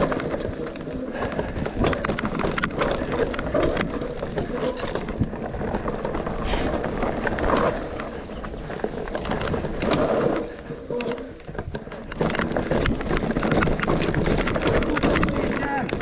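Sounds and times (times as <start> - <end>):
bike knocking and rattling: 0.0 - 16.0
bike tyre noise: 0.0 - 16.0.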